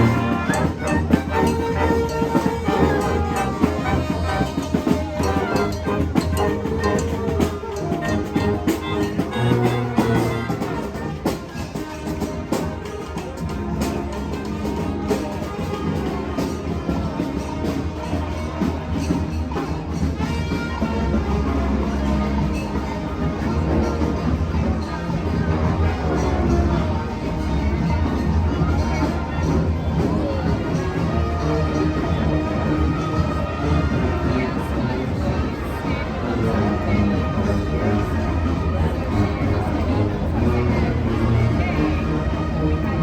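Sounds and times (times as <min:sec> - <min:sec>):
brass band horns: 0:00.0 - 0:43.0
drums: 0:00.0 - 0:43.0.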